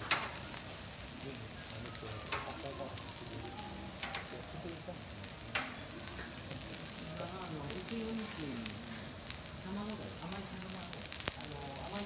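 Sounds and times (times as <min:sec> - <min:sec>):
beef sizzling on griddle: 0:00.0 - 0:12.0.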